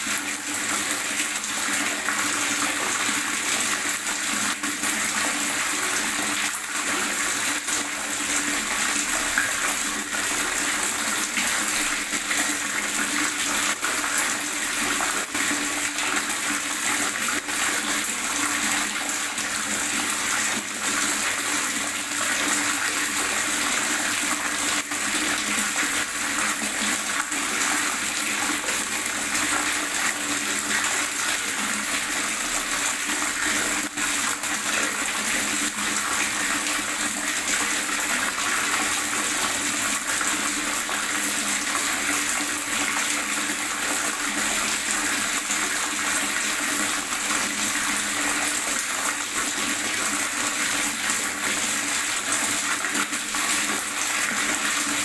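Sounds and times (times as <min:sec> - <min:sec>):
running water gurgling: 0:00.0 - 0:55.0.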